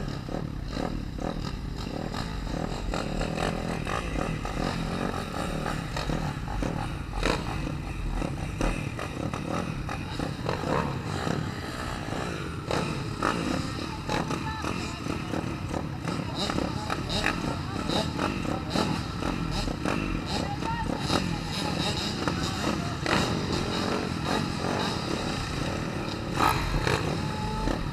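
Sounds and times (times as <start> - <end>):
pit bike engine revving: 0.0 - 27.9.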